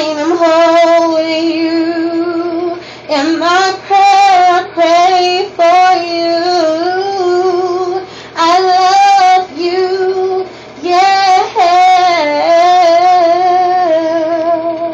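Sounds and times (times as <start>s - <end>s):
person singing unaccompanied: 0.0s - 14.9s.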